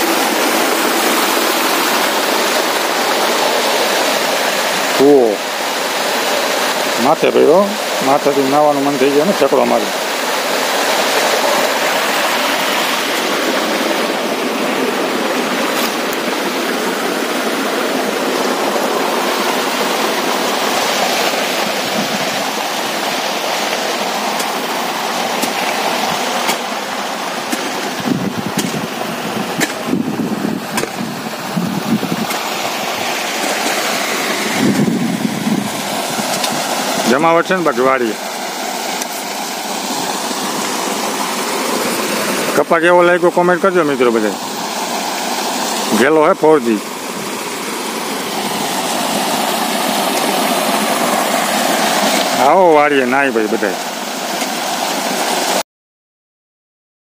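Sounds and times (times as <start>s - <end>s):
water pouring and flowing: 0.0s - 55.6s.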